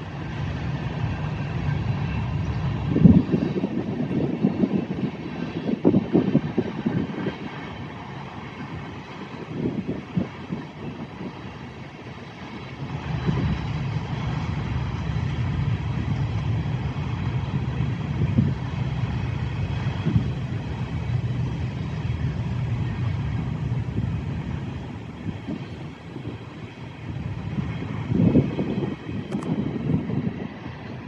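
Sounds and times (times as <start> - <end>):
train rumbling past: 0.0 - 31.0
wind buffeting microphone: 0.0 - 31.0.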